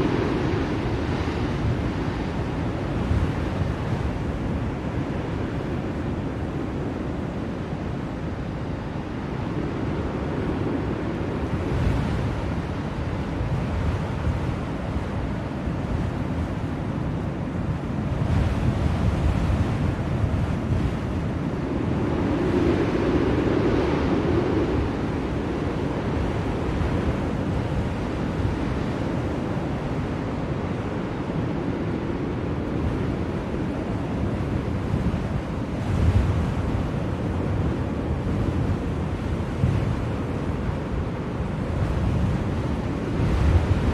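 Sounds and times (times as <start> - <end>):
blizzard wind blowing: 0.0 - 43.9.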